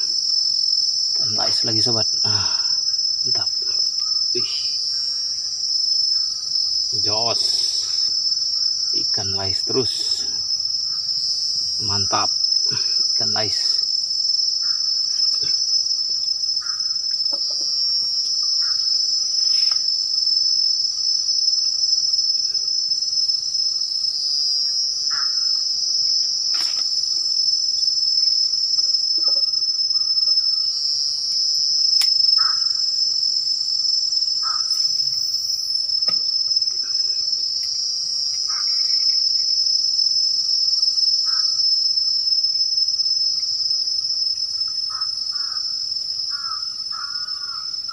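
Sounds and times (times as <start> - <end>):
low chirps: 0.0 - 47.9
shrill insect chorus: 0.0 - 47.9.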